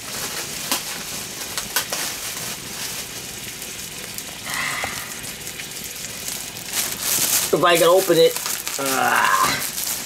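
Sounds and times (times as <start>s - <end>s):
food sizzling in pans: 0.0s - 10.0s.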